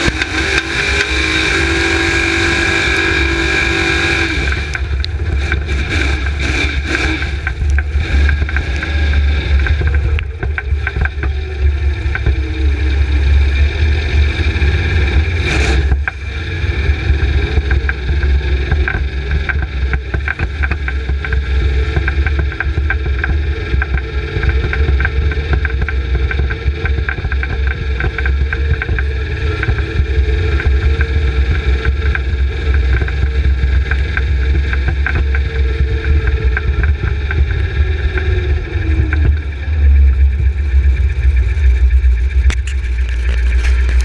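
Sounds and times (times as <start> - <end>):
engine rumbling: 0.0 - 44.0.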